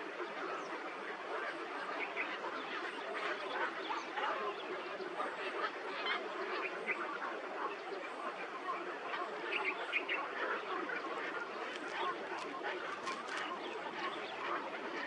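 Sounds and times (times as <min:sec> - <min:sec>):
many birds calling: 0:00.0 - 0:15.0.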